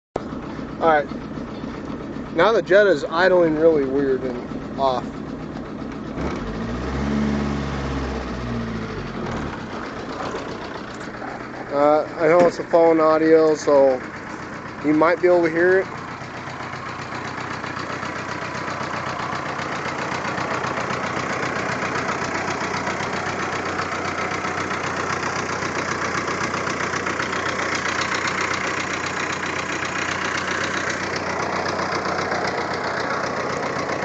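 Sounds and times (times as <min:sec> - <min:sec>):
car engine idling rough: 0:00.2 - 0:34.0.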